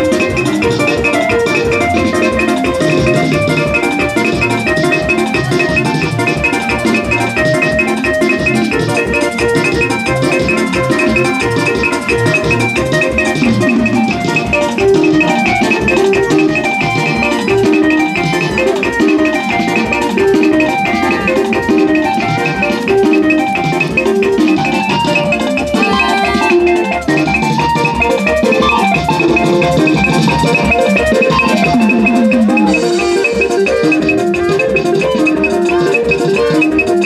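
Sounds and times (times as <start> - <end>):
bright melodic notes: 0.0 - 37.0
fast drum beat: 0.0 - 37.0.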